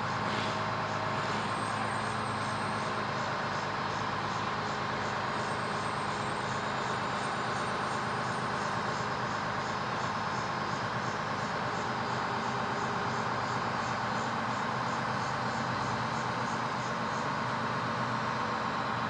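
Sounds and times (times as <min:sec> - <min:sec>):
fire truck engine running: 0:00.0 - 0:19.0
road noise: 0:00.0 - 0:19.0.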